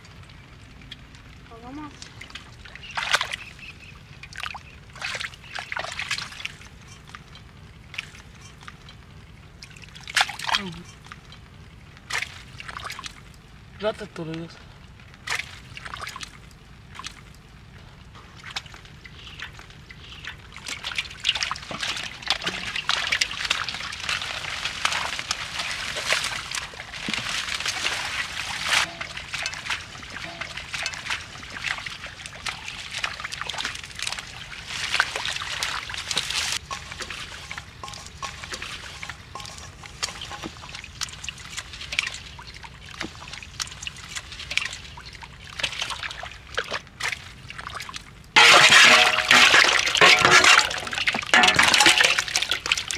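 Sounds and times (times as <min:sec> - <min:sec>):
muddy water splashing: 0:00.0 - 0:17.4, 0:18.1 - 0:52.9
water dripping: 0:00.0 - 0:52.9.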